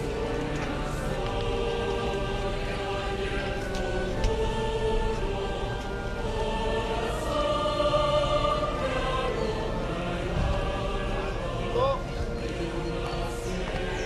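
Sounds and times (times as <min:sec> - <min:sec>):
choir singing long held notes: 0:00.0 - 0:14.0.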